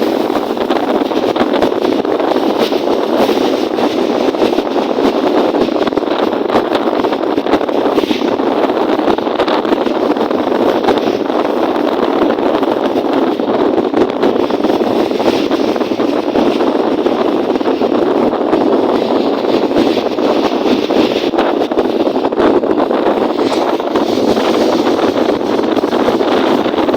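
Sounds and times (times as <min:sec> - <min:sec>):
wind rushing: 0:00.0 - 0:26.9.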